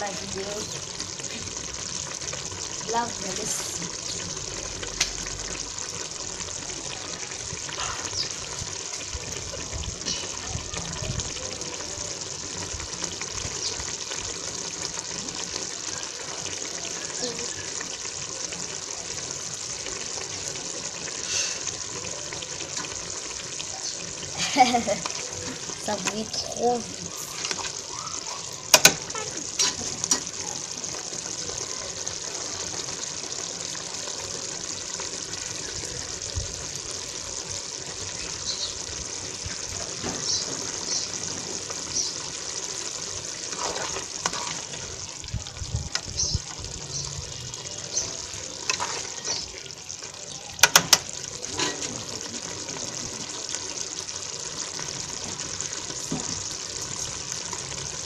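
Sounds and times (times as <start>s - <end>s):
stew boiling and bubbling: 0.0s - 58.0s.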